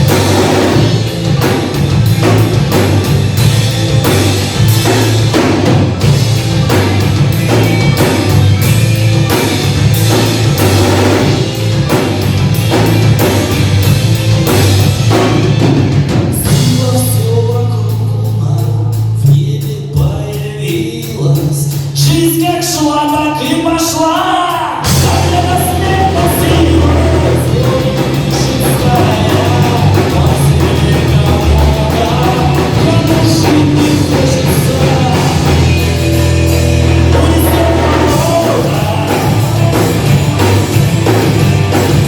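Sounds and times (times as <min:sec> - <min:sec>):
sustained bass notes: 0:00.0 - 0:22.4, 0:24.8 - 0:42.0
drum kit beat: 0:00.0 - 0:42.0
live rock band playing: 0:00.0 - 0:42.0.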